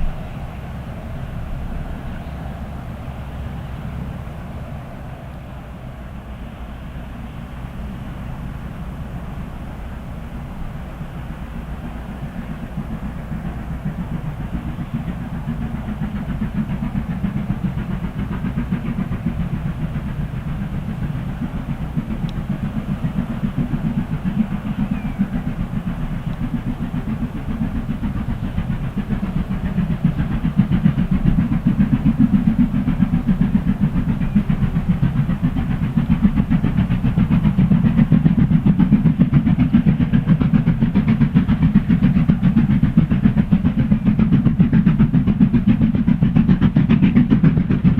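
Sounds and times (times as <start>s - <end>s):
steam locomotive exhaust beating: 0.0s - 47.9s.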